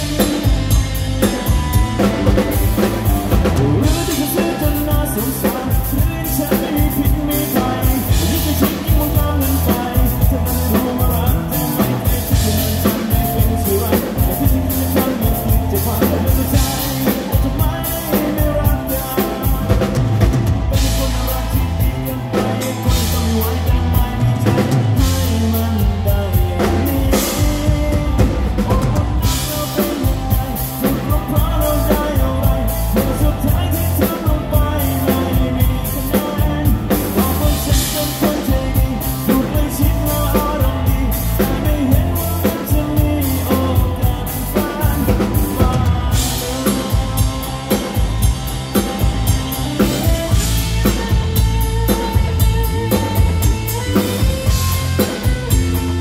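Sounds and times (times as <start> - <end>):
bass guitar: 0.0 - 56.0
drum kit beat: 0.0 - 56.0
electric guitar: 0.0 - 56.0
man singing: 0.0 - 56.0.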